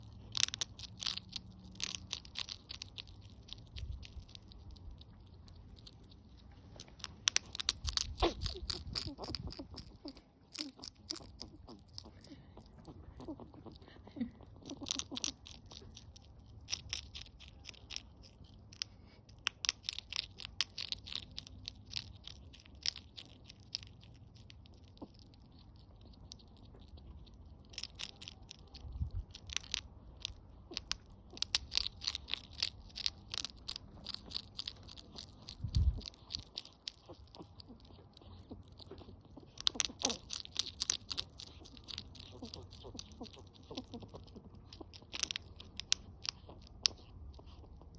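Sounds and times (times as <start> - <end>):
hedgehog crunching food: 0.0 - 47.9.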